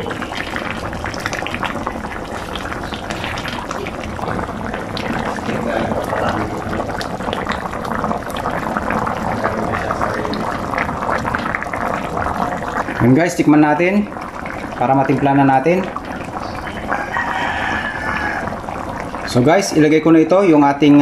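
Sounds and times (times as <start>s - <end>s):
broth boiling in a pan: 0.0s - 21.0s.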